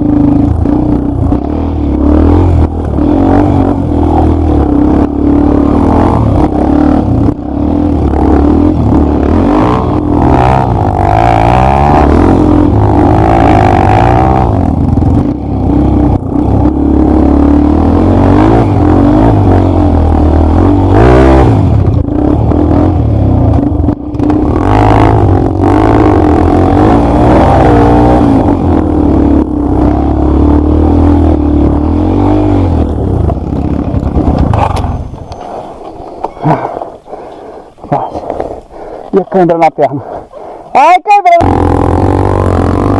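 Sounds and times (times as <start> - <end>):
off-road motorcycle engine revving: 0.0 - 42.9.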